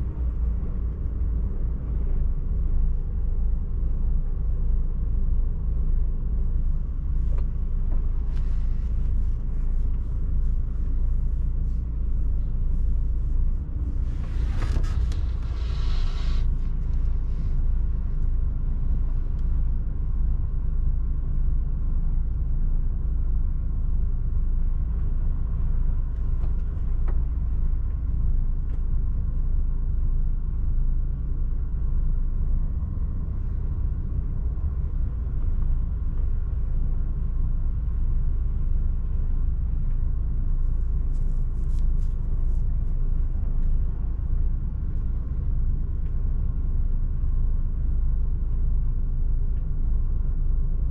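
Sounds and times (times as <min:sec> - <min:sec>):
truck engine and tyre noise: 0:00.0 - 0:50.9.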